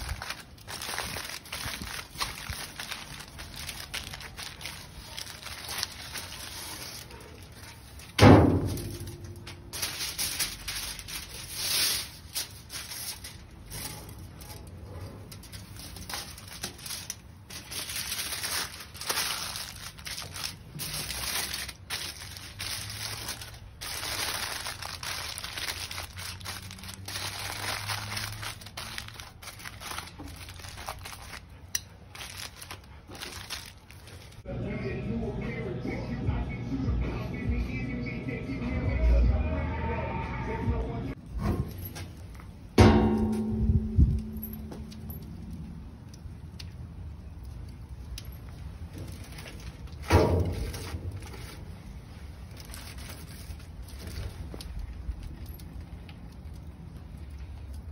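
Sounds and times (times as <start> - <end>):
aluminium foil crinkling: 0.0 - 34.5, 41.8 - 57.9.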